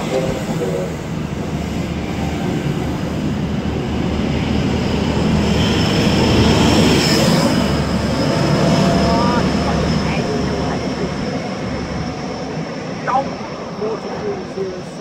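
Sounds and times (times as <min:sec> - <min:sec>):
high-pitched train whine: 0:00.0 - 0:15.0
train wheels rumbling: 0:00.0 - 0:15.0.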